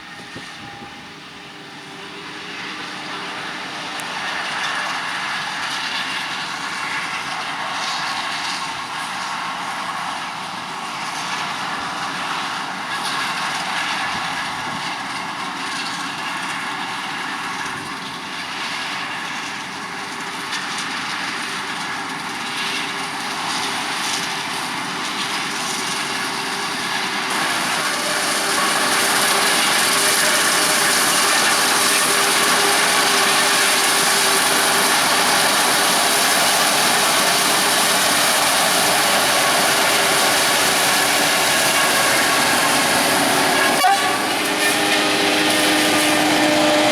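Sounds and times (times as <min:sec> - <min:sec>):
harvesting machinery running: 0:00.0 - 0:46.9.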